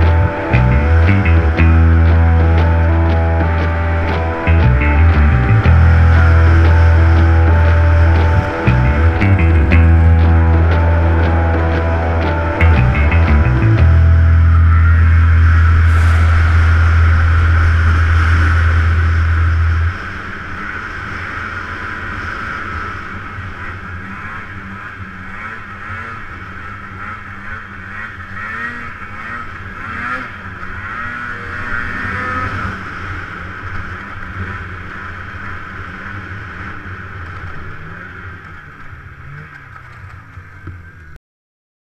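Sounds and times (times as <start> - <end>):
snowmobile engine running: 0.0 - 41.0.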